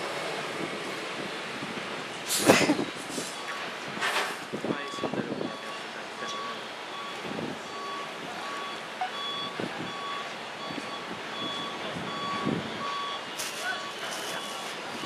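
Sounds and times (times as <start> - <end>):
truck reversing alarm beeping: 2.3 - 15.0.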